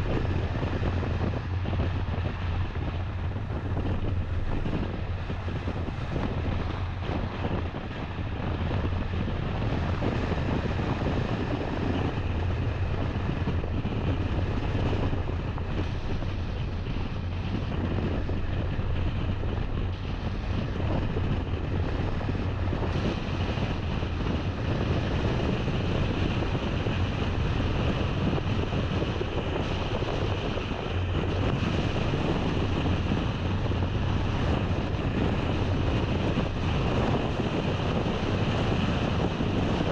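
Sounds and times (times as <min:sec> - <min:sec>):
car engine and tyres humming: 0:00.0 - 0:39.9.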